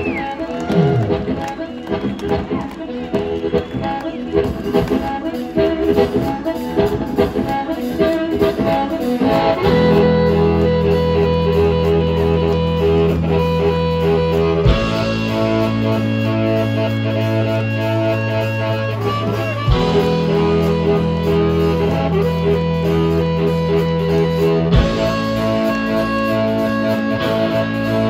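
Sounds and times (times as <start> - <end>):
amplified harmonica soloing: 0.0 - 28.0
live blues band: 0.0 - 28.0.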